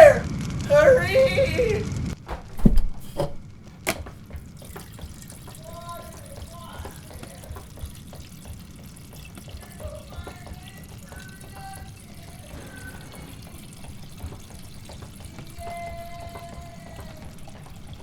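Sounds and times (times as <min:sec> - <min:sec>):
water running and pouring: 0:02.0 - 0:18.0.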